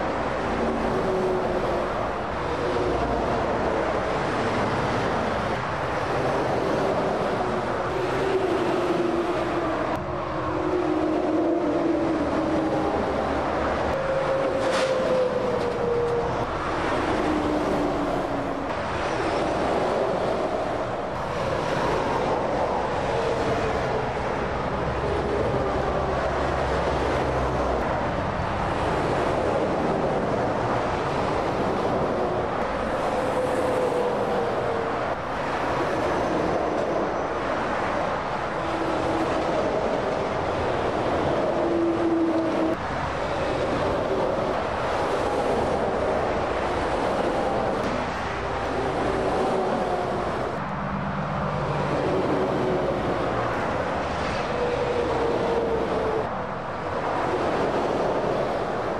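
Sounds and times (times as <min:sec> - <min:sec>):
lorry engines passing: 0:00.0 - 0:58.9
tyre roar of traffic: 0:00.0 - 0:58.9.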